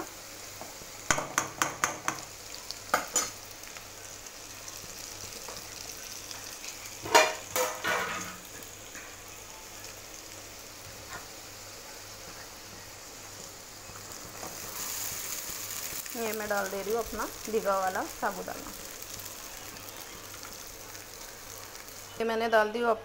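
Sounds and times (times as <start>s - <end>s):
food sizzling in oil: 0.0s - 22.9s.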